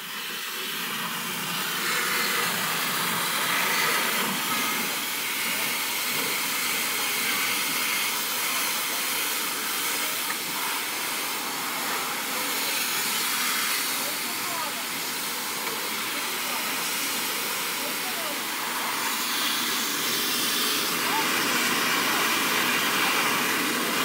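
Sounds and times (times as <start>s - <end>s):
high-pressure water spray hissing: 0.0s - 24.0s.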